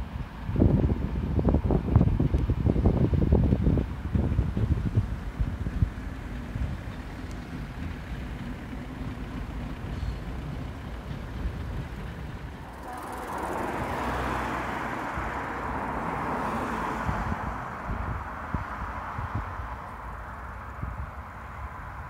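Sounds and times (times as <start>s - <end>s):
electric train running: 0.0s - 22.0s
wind buffeting microphone: 0.0s - 22.0s.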